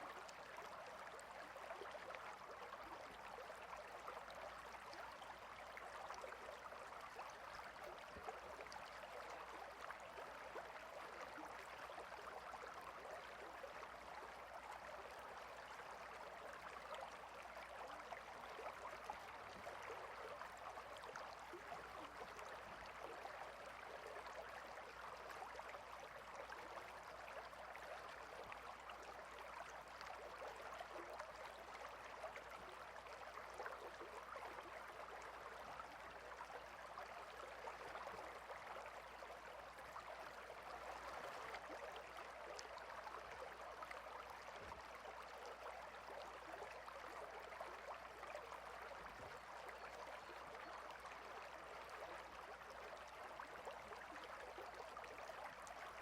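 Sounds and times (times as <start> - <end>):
stream of water running: 0.0 - 56.0.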